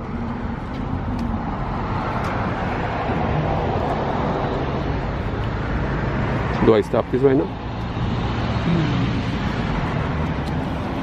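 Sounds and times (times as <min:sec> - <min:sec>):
traffic engine hum and road noise: 0:00.0 - 0:11.0.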